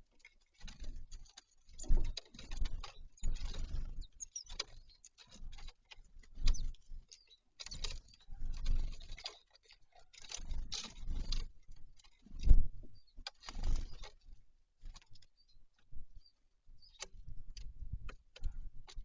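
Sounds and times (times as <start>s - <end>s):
birds pecking and scuffling: 0.0s - 19.0s.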